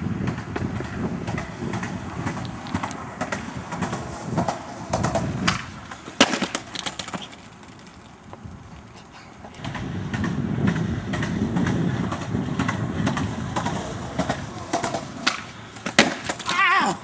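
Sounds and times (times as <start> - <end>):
skateboard clacking on ground: 0.0 - 17.0
skateboard clattering: 0.0 - 17.0
skateboard wheels rolling on asphalt: 0.0 - 17.0.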